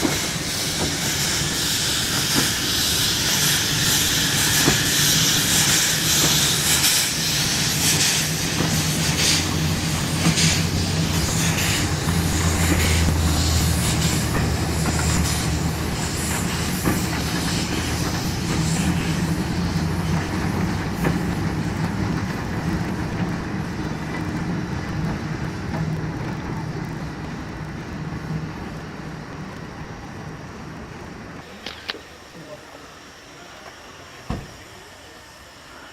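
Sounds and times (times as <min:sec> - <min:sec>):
train running on rails: 0:00.0 - 0:35.9.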